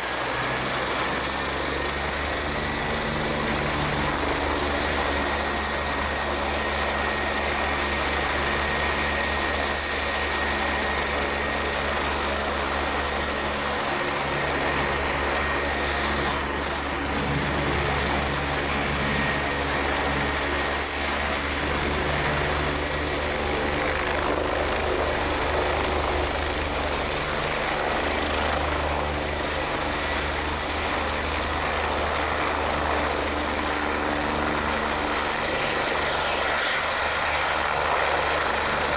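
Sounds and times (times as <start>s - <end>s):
helicopter rotor beat: 0.0s - 38.9s
helicopter turbine whine: 0.0s - 38.9s.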